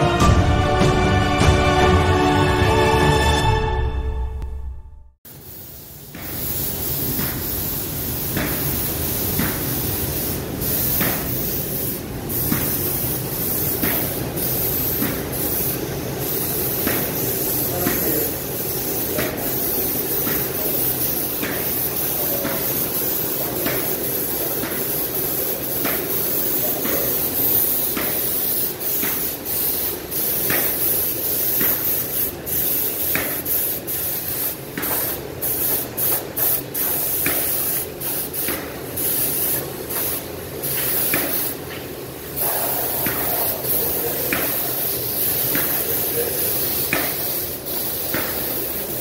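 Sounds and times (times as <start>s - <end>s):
paint spray gun hissing: 5.3s - 49.0s.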